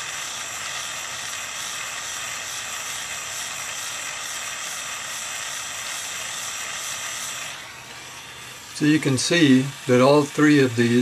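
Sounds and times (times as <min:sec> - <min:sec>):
gas torch hissing: 0:00.0 - 0:11.0.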